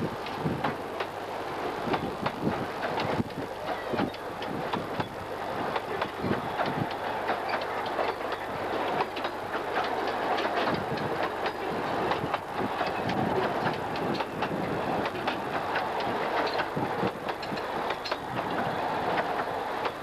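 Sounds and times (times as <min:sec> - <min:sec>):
train wheels rumbling on rail: 0:00.0 - 0:20.0
wheels clacking over track: 0:01.8 - 0:20.0.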